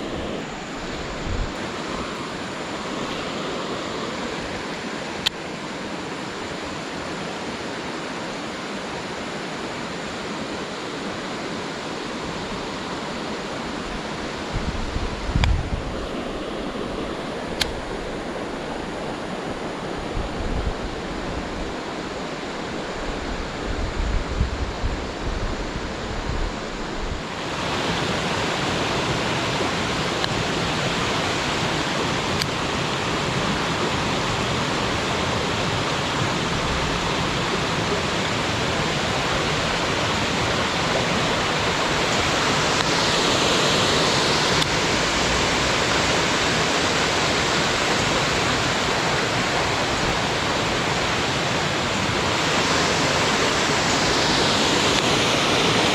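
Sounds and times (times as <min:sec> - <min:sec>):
waterfall rushing: 0:00.0 - 0:23.8, 0:25.1 - 0:55.9.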